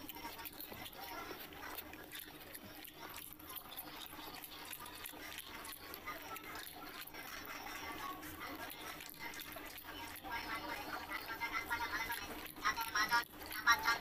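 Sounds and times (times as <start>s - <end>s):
chewing and lip-smacking: 0.0s - 14.0s
fingers squelching wet rice: 0.0s - 14.0s.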